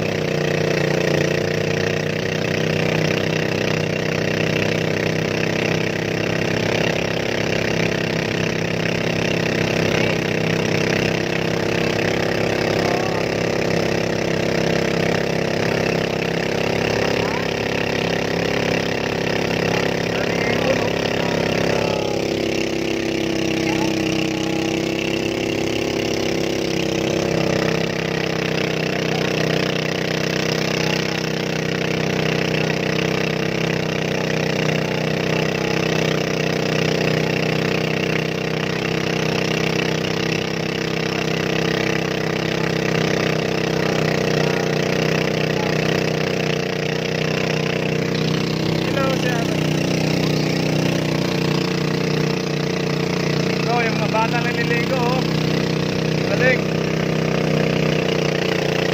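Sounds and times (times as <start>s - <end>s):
small boat engine running: 0.0s - 58.9s.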